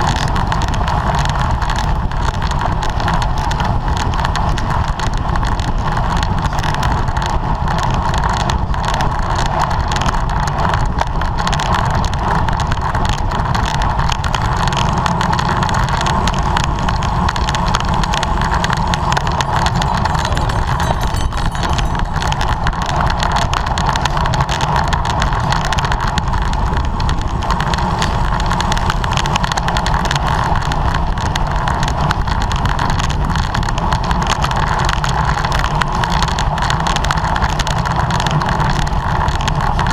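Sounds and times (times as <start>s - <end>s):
wind and tyre noise: 0.0s - 39.9s.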